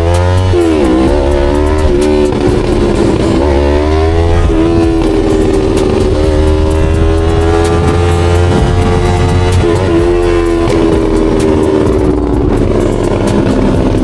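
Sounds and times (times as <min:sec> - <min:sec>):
motorcycle engine changing gears: 0:00.0 - 0:14.0.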